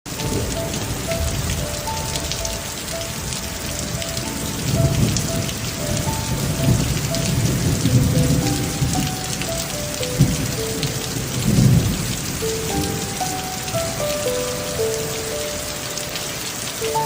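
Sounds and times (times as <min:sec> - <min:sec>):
steady rain: 0:00.0 - 0:17.0
low rumble of thunder: 0:00.1 - 0:15.3
soft slow melody: 0:00.1 - 0:17.0.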